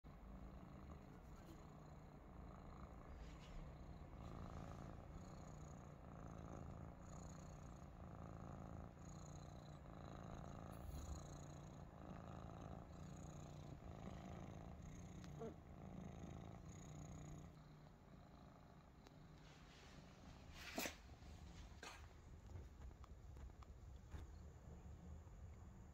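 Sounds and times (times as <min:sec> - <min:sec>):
kittens purring faintly: 0:00.0 - 0:25.9.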